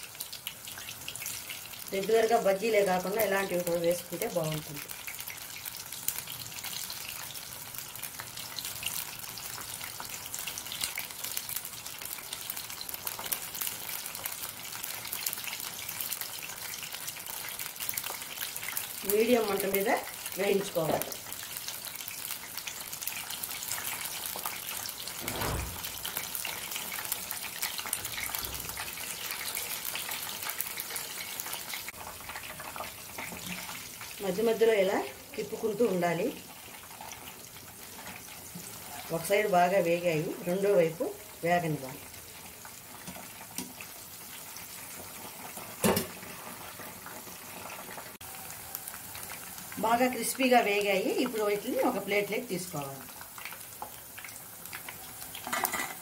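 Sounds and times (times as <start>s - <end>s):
deep-frying sizzle with crackles: 0.0s - 56.0s.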